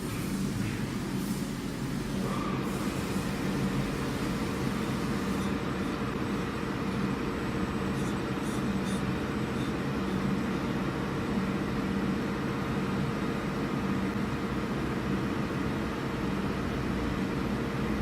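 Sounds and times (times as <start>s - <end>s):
cnc router machinery humming: 0.0s - 18.0s.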